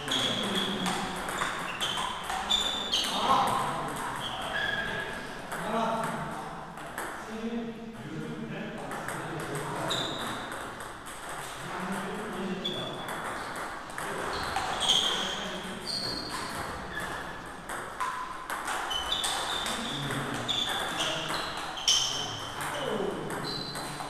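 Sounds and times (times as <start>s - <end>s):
table tennis balls pinging: 0.0s - 7.2s, 8.8s - 24.0s.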